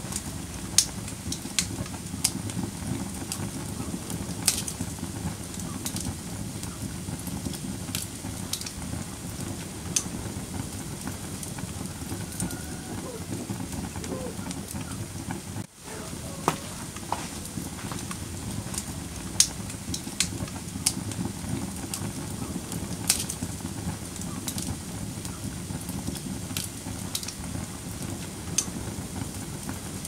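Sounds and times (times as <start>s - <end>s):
fire popping: 0.0s - 30.0s
low rumble of flames: 0.0s - 30.0s
wood fire crackling: 0.0s - 30.0s.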